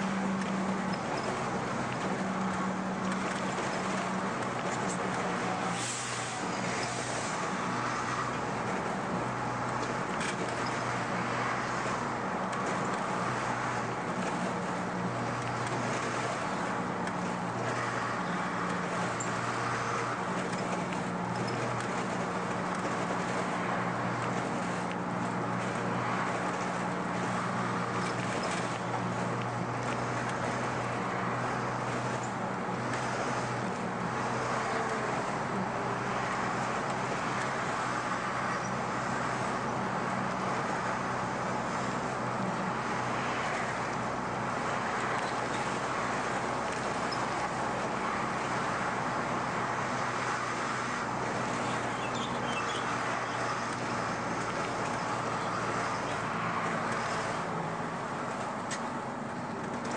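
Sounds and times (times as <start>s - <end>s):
diesel bus engine cruising: 0.0s - 59.9s
road and tyre hiss: 0.0s - 59.9s.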